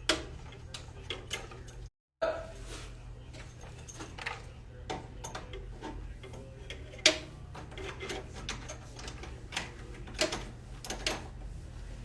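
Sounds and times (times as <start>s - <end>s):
tools clicking and knocking: 0.0s - 1.9s, 3.4s - 11.4s.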